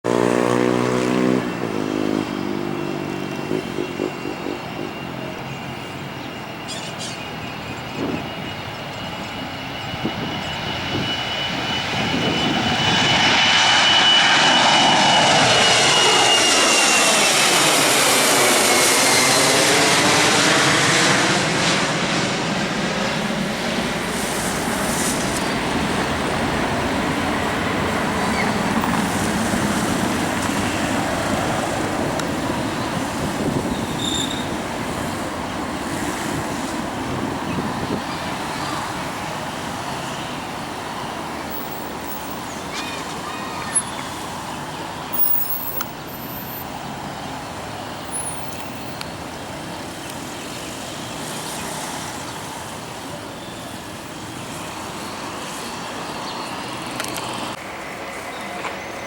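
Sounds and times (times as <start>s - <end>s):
jet airliner taking off: 0.1s - 59.0s.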